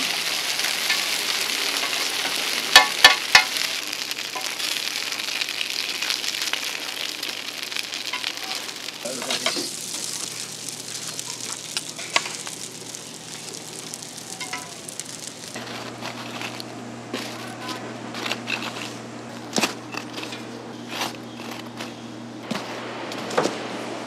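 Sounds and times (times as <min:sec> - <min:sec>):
buns sizzling in hot oil: 0:00.0 - 0:23.0.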